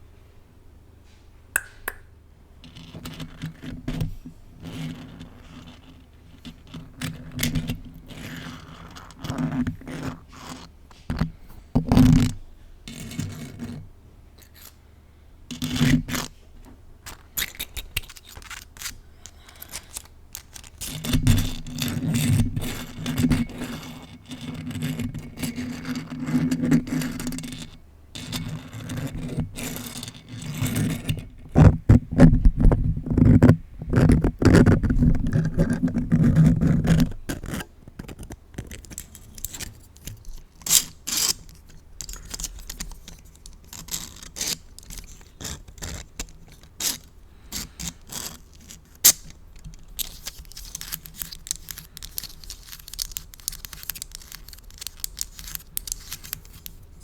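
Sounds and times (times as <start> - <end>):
plastic toy scraping: 2.6 - 14.8, 15.5 - 16.4, 17.0 - 57.0.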